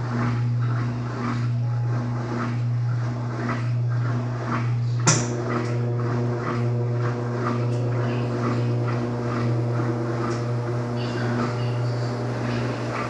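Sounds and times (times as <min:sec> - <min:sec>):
washing machine motor humming: 0:00.0 - 0:13.0.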